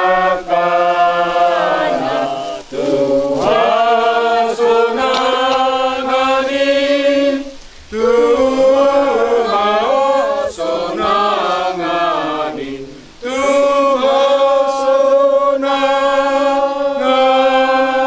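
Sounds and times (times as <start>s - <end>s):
group singing a hymn unaccompanied: 0.0s - 18.0s.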